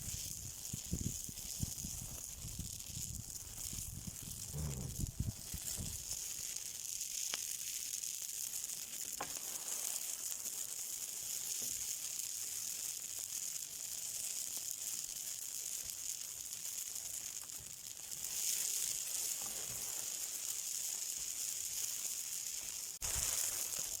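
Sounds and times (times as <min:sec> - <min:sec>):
faint crackles: 0:00.0 - 0:24.0
high sizzling hiss: 0:00.0 - 0:24.0.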